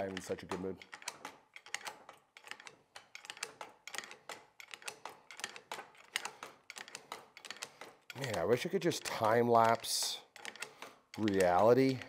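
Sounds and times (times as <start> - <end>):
mechanism clicking: 0.0 - 12.0.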